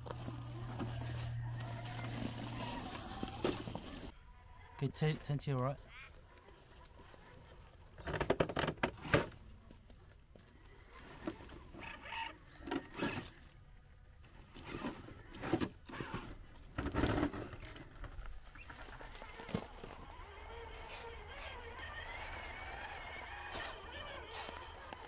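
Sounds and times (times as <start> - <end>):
toy car tyres scraping on rock: 0.0 - 4.1, 6.0 - 13.6, 14.3 - 25.0.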